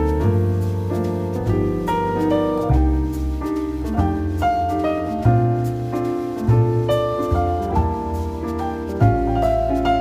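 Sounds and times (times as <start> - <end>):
sustained bass notes: 0.0 - 10.0.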